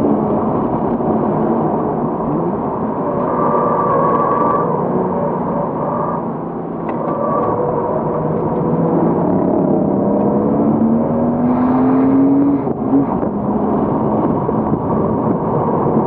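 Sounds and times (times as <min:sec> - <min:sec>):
car engine from inside cabin: 0:00.0 - 0:03.6, 0:04.4 - 0:16.0
road and wind noise: 0:00.0 - 0:16.0.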